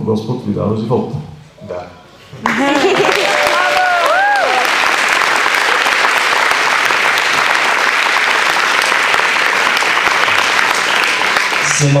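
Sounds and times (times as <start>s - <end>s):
crowd applauding: 2.4s - 12.0s.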